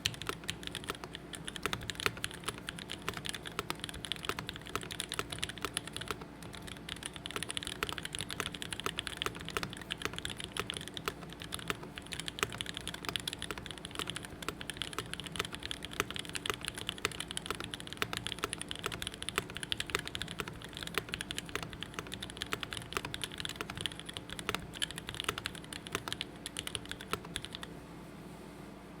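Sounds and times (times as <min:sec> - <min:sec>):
fast typing on mechanical keyboard: 0:00.0 - 0:27.7.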